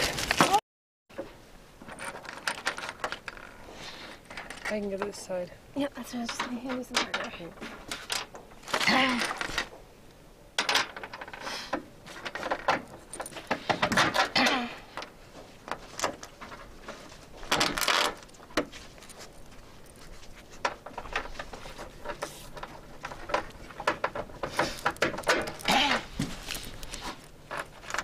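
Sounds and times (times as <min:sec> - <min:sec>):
rustling: 0:01.2 - 0:09.8, 0:10.6 - 0:28.0.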